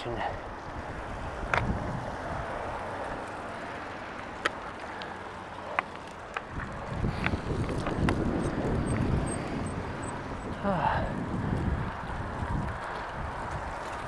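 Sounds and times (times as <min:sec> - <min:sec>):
wind buffeting microphone: 0:00.0 - 0:05.6, 0:06.2 - 0:14.0
road noise: 0:00.0 - 0:14.0.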